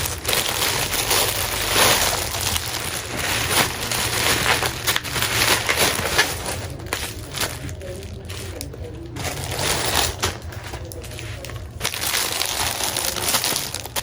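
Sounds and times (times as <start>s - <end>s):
crunching and crinkling: 0.0s - 14.0s.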